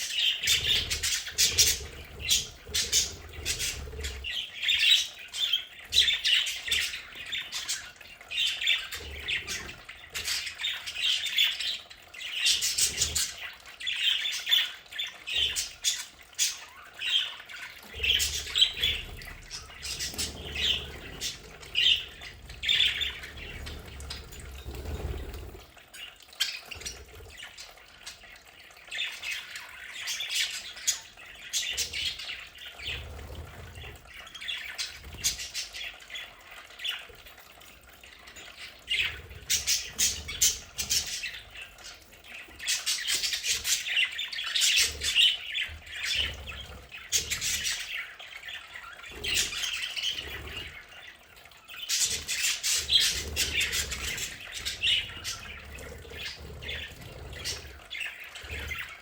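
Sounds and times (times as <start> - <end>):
budgerigars chattering and squawking: 0.0 - 28.2, 28.9 - 37.1, 38.2 - 59.0.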